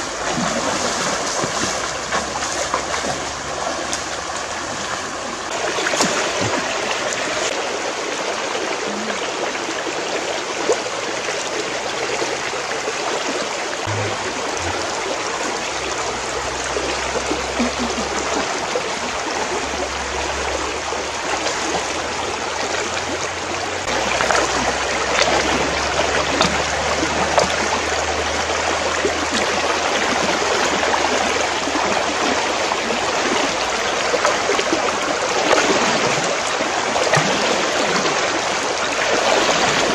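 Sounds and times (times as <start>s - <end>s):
feet wading through water: 0.0s - 39.9s
stream babbling over stones: 0.0s - 39.9s.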